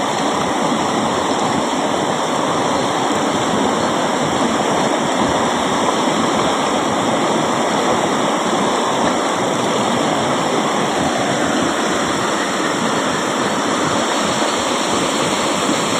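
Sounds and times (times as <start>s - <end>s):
waterfall rushing and splashing: 0.0s - 15.9s.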